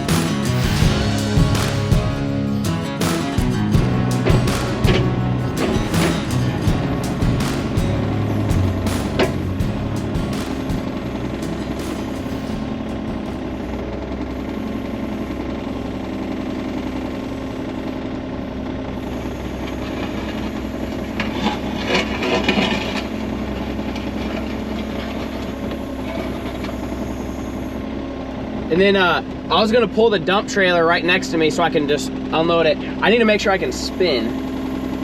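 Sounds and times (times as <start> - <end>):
skid loader engine idling: 0.0 - 35.0.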